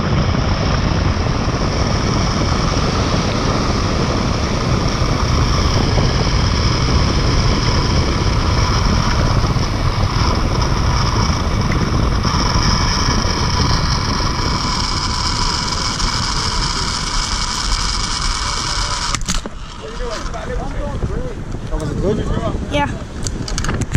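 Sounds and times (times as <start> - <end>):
zipline trolley wheels whining: 0.0 - 22.0
wind buffeting microphone: 0.0 - 23.9.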